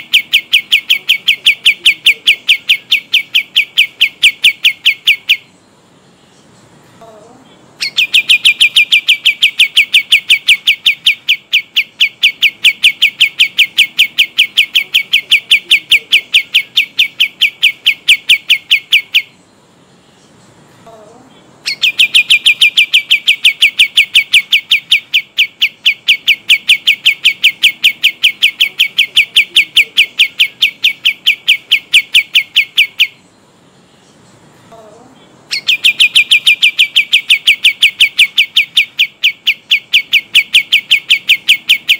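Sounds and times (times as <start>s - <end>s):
songbird trilling: 0.0s - 41.9s.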